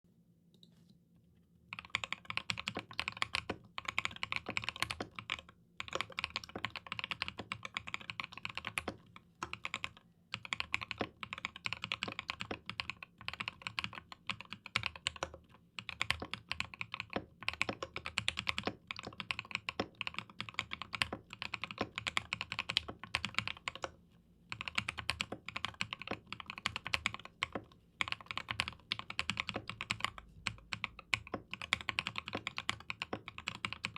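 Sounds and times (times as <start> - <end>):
mechanical keyboard typing: 1.7 - 33.9.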